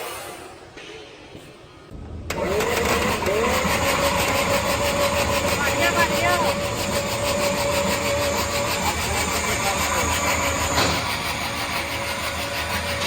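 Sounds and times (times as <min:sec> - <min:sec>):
engine running steadily: 0:02.0 - 0:13.0.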